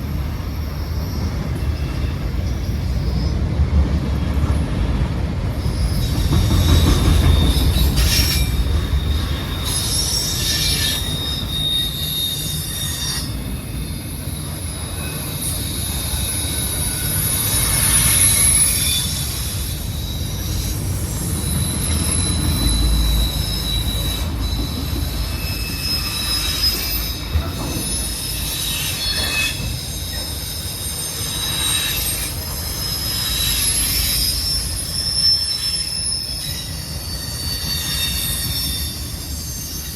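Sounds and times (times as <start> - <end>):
freight cars rumbling: 0.0 - 12.6, 13.2 - 35.1
steel wheels squealing: 0.0 - 39.9.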